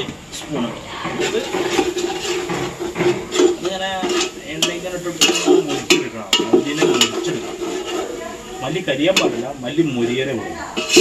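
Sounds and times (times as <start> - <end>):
spoon scraping in a pot: 0.9 - 10.1, 10.7 - 11.0.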